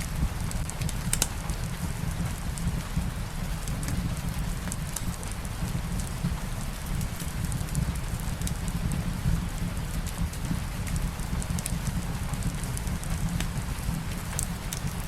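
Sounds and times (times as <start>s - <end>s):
steady rain falling: 0.0s - 15.0s
wood fire crackling: 0.0s - 15.0s.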